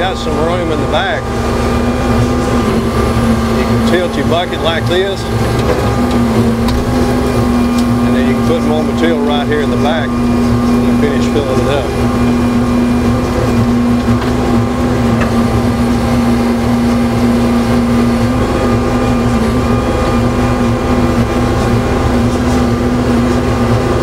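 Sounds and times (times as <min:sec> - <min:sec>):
excavator diesel engine droning: 0:00.0 - 0:24.0.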